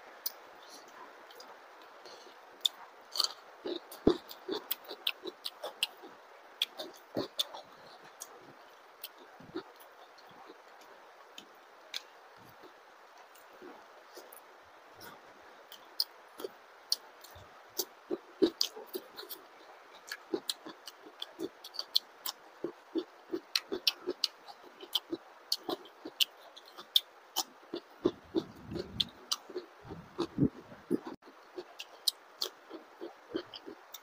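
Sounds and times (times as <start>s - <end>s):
man chewing food wetly: 0.2s - 34.0s.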